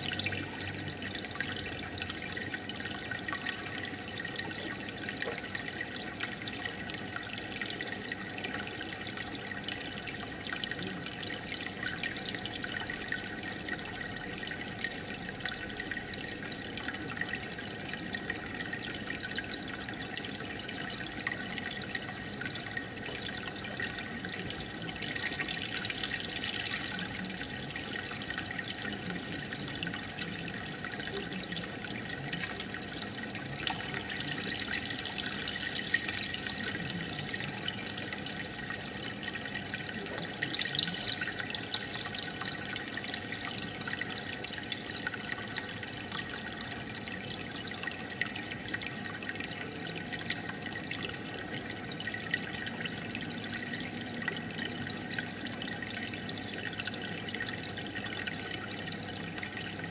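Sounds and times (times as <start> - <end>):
aquarium bubbler bubbling water: 0.0 - 59.9.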